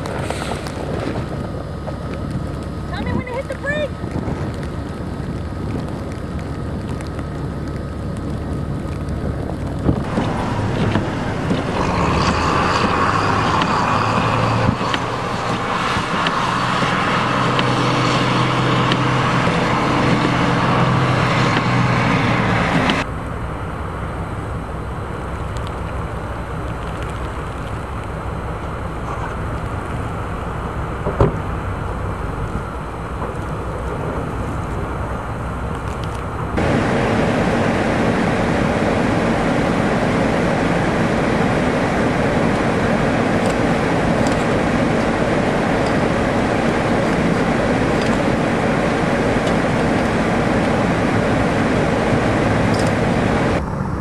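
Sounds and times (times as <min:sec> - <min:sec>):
road noise: 0:00.0 - 0:54.0
vehicle engine: 0:00.0 - 0:54.0.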